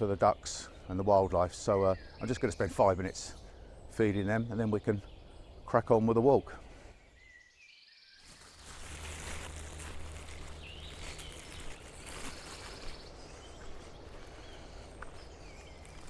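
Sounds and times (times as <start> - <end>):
bird chirps: 0.0 - 8.6, 10.3 - 16.0.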